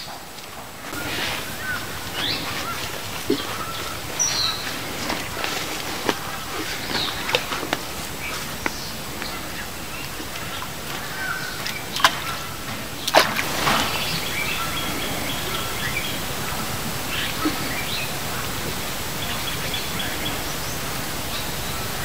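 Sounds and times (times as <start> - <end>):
birds chirping: 0.0 - 22.0
steady outdoor hiss: 0.0 - 22.0.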